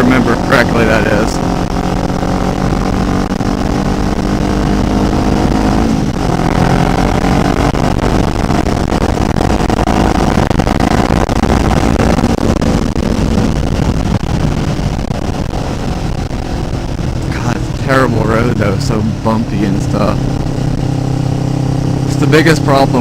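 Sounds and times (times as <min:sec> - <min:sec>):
motorcycle engine riding: 0:00.0 - 0:23.0
wind noise on microphone: 0:01.1 - 0:17.9, 0:20.0 - 0:22.1.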